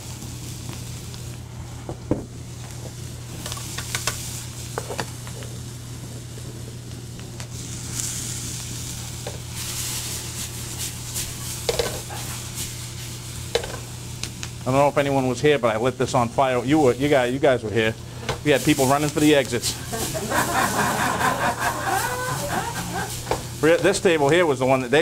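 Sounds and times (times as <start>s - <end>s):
steady low hum: 0.0s - 25.0s
vegetables sizzling in oil: 0.0s - 25.0s.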